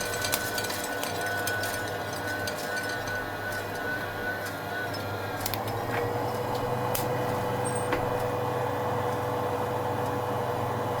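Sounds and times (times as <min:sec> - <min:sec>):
coffee roaster motor and fan hum: 0:00.0 - 0:11.0.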